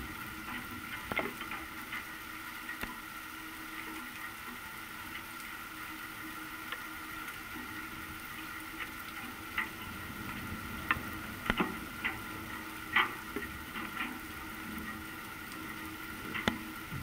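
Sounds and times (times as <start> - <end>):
drips tapping nearby: 0.0 - 17.0
steady rain falling: 0.0 - 17.0.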